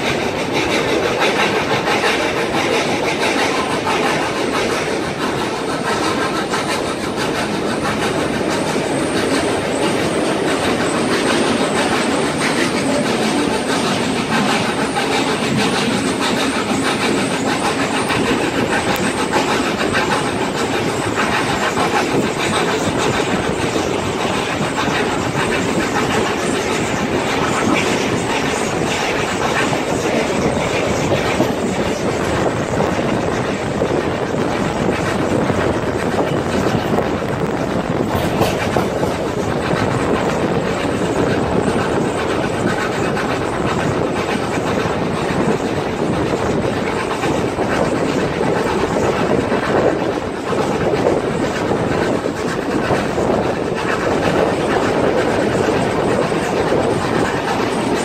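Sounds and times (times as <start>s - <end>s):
train wheel and rail noise: 0.0s - 58.0s.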